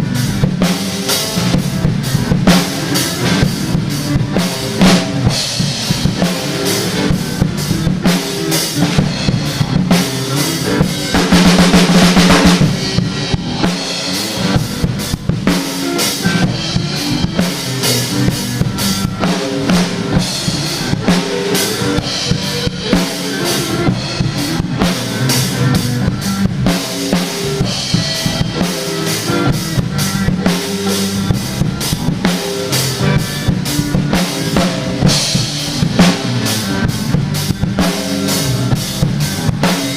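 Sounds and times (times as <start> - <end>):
drum kit groove: 0.0 - 39.9
rock backing track: 0.0 - 39.9.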